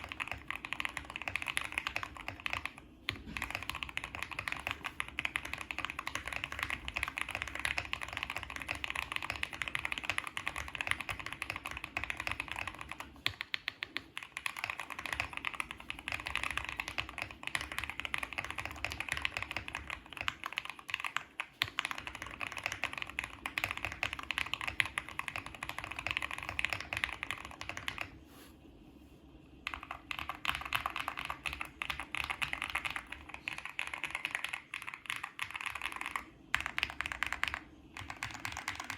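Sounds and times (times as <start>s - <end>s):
mechanical keyboard typing: 0.0s - 28.2s, 29.6s - 38.9s.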